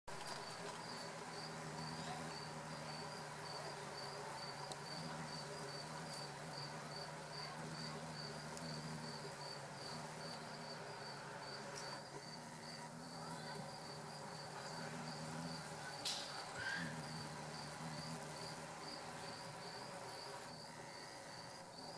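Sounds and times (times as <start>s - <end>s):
insect chirping: 0.2s - 21.9s
steady low hum: 0.2s - 21.9s.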